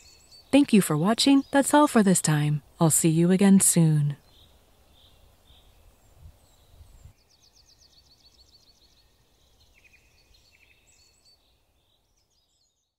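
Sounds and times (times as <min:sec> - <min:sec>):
songbirds singing: 0:00.0 - 0:03.2, 0:03.9 - 0:12.9.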